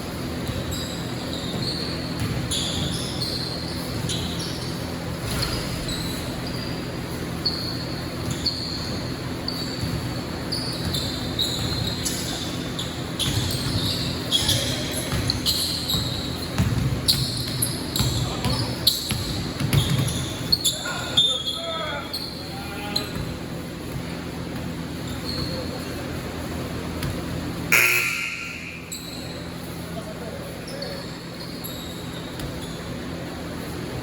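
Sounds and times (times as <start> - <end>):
gym crowd background: 0.0 - 34.0
sneaker squeaks: 0.0 - 34.0
basketball bouncing on court: 0.1 - 20.7, 23.0 - 29.9, 31.5 - 33.3.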